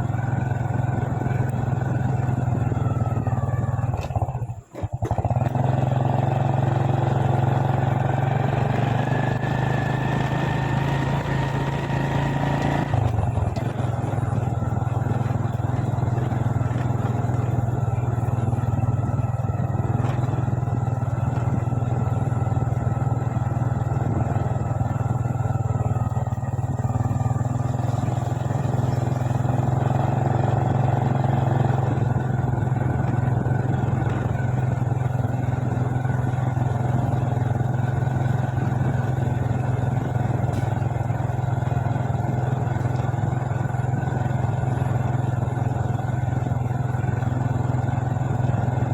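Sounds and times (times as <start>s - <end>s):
motorbike engine running: 0.0s - 48.9s.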